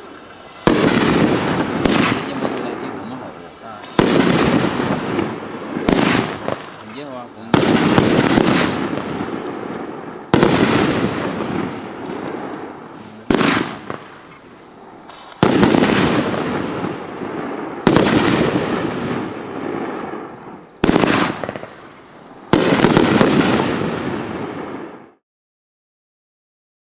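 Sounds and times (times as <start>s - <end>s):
firework shell bursts: 0.0s - 25.1s.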